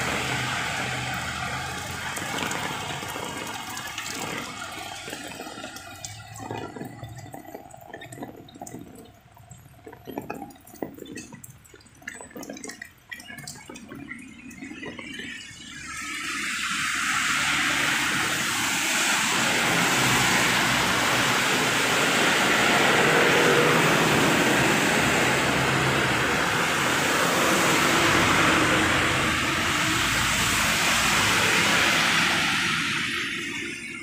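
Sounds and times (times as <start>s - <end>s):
rain falling: 0.0s - 12.5s, 13.3s - 33.7s
tyres hissing through water: 0.0s - 12.6s, 13.3s - 34.0s
low rumble of engines: 0.0s - 34.0s.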